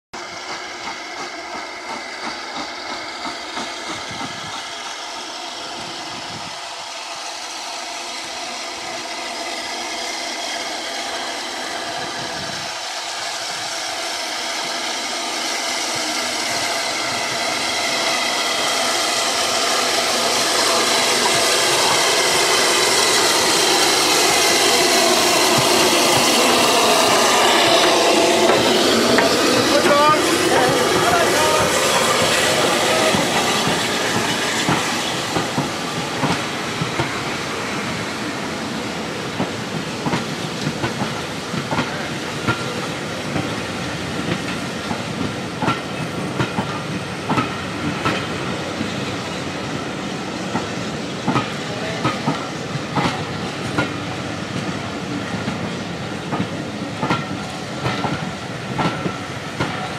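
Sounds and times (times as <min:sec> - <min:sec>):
steam locomotive approaching: 0:00.1 - 0:59.9.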